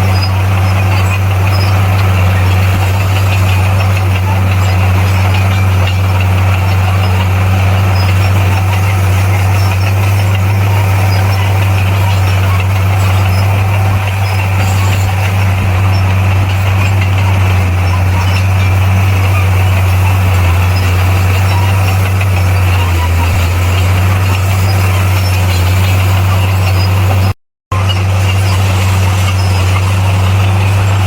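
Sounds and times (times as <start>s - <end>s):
heavy machine engine droning: 0.0s - 31.0s.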